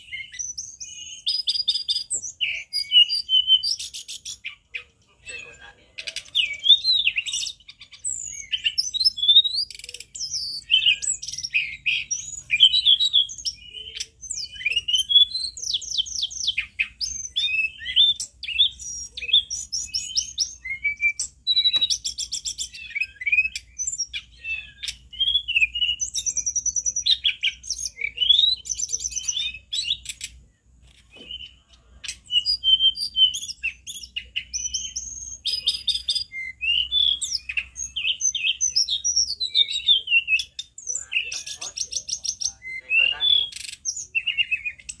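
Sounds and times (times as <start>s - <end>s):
flycatcher singing: 0.0s - 45.0s.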